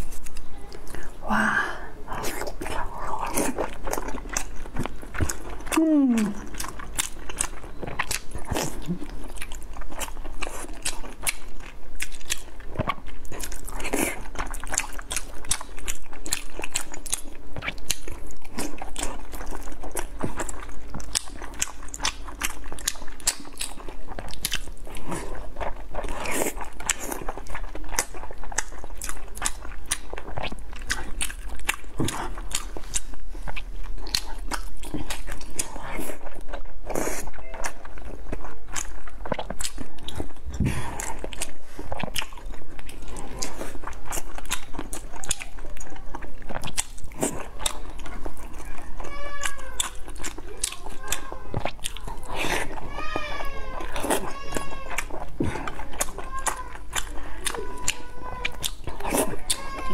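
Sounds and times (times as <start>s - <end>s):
biting and chewing: 0.0s - 1.2s, 2.1s - 59.9s
mouth clicks and smacks: 2.1s - 59.9s.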